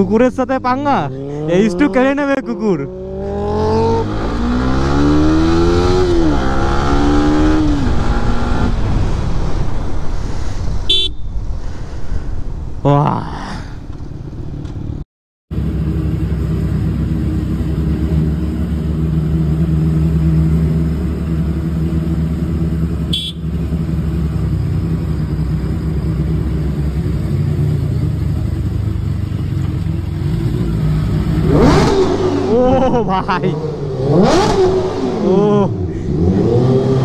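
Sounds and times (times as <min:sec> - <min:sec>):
motorcycle engines running: 0:00.0 - 0:08.4, 0:15.5 - 0:37.0.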